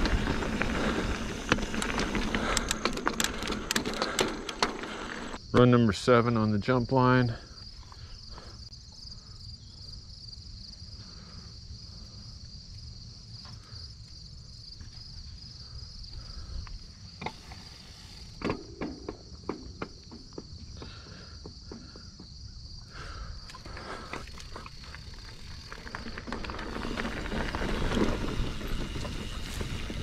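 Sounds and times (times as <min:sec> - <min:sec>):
crickets and insects chirping: 0:00.0 - 0:30.0.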